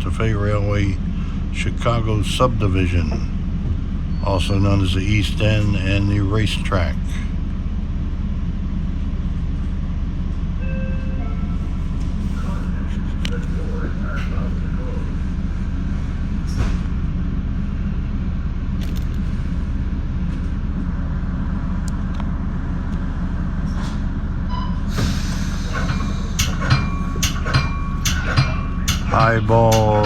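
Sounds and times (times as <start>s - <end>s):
train equipment low hum: 0.0s - 30.0s.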